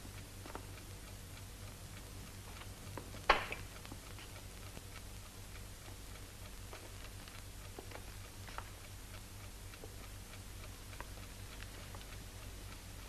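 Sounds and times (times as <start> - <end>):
clock ticking: 0.0 - 13.0
low steady hum: 0.0 - 13.0.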